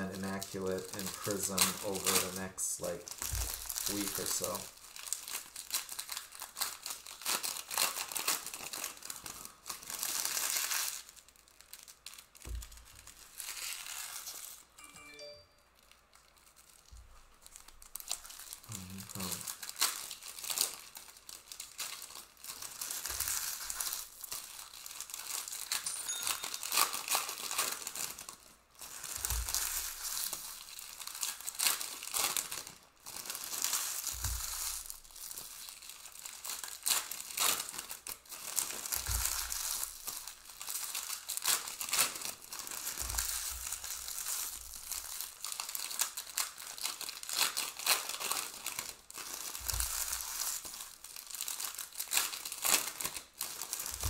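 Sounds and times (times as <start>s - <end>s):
wrappers crinkling and tearing: 0.0s - 14.8s, 15.8s - 54.0s.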